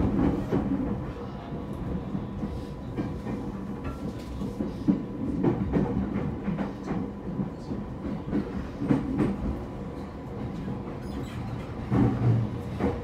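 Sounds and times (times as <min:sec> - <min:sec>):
train rumble inside car: 0:00.0 - 0:13.0.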